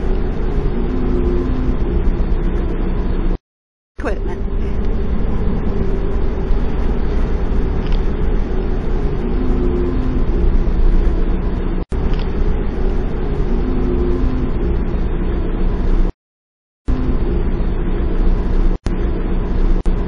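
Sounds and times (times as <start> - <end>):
ferry engine rumble: 0.0 - 3.4, 4.0 - 16.1, 16.9 - 20.0.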